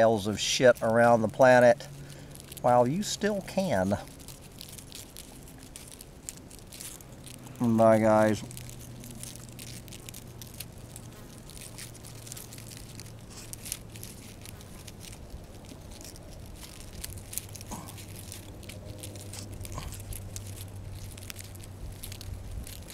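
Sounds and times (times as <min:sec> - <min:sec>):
dry leaves crackling: 0:00.0 - 0:22.9
low steady hum: 0:00.0 - 0:22.9.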